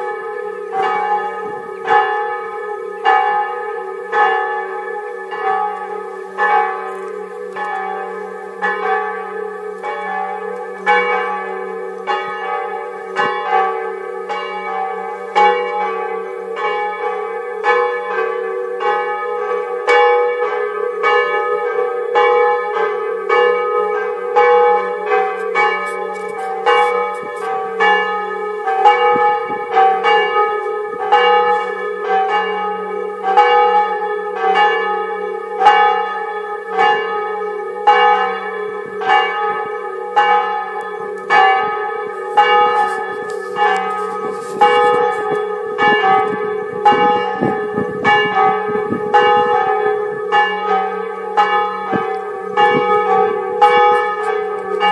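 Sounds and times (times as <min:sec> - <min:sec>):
church bells ringing: 0:00.0 - 0:54.9.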